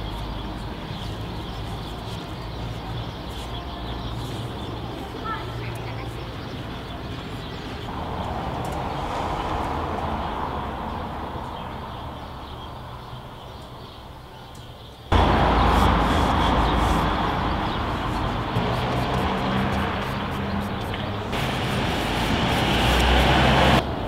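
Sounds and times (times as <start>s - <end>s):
distant traffic hum: 0.0s - 24.0s.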